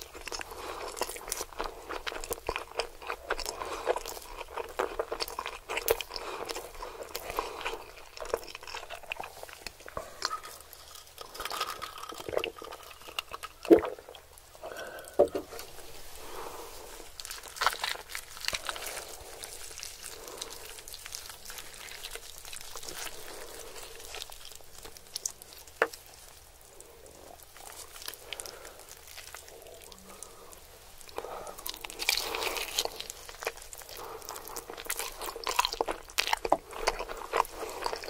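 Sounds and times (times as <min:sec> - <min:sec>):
close chewing with mouth sounds: 0:00.0 - 0:38.0.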